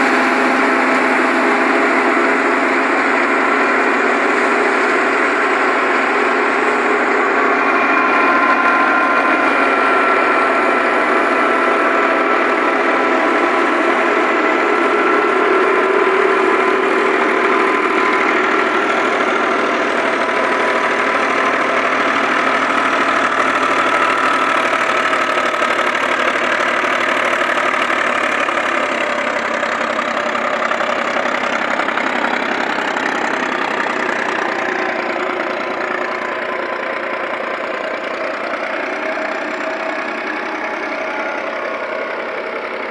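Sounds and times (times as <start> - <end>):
thresher machine hum: 0.0 - 42.9
tractor engine running: 0.0 - 42.9.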